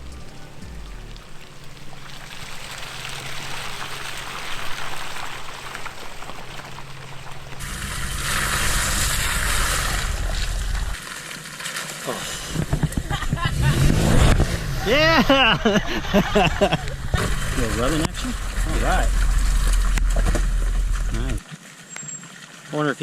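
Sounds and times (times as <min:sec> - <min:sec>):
low engine hum: 0:00.0 - 0:21.4
water rushing and splashing: 0:00.0 - 0:23.0.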